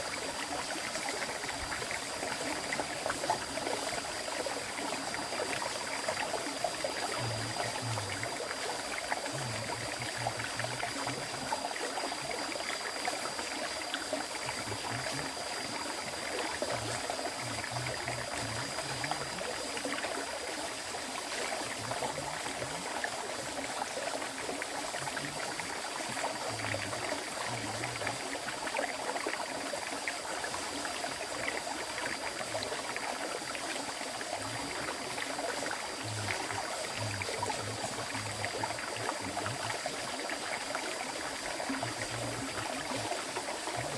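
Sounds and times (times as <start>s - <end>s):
river water rushing and gurgling: 0.0s - 43.9s.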